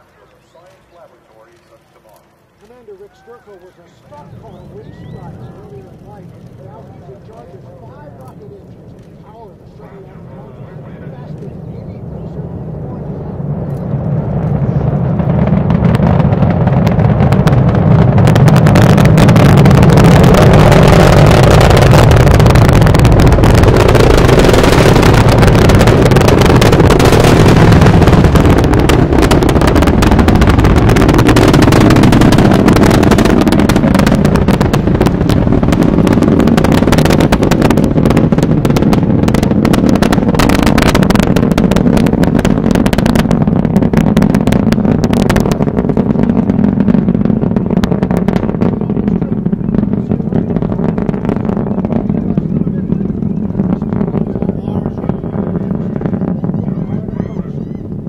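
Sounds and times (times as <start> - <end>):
rocket launch rumble and crackle: 0.0 - 58.0.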